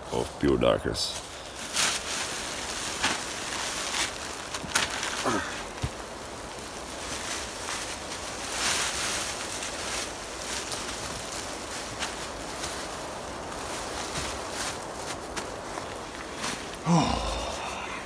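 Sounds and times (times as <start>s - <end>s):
plastic sheeting crinkling: 0.0s - 18.0s.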